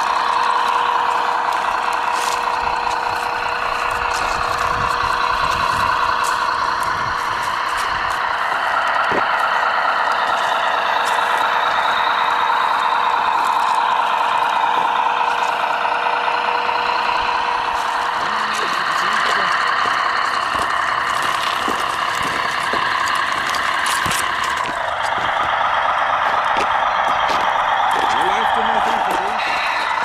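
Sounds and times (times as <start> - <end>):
constant tone: 0.0 - 30.0
toy truck motor whine: 0.0 - 30.0.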